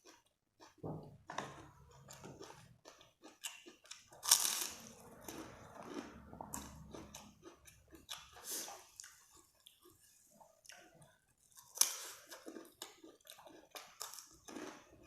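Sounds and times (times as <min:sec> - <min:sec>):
person chewing and biting: 0:01.5 - 0:15.0.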